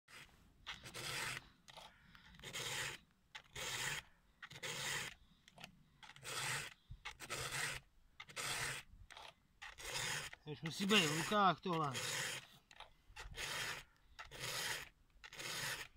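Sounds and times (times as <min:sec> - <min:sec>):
file rasping on chain: 0:00.1 - 0:15.9.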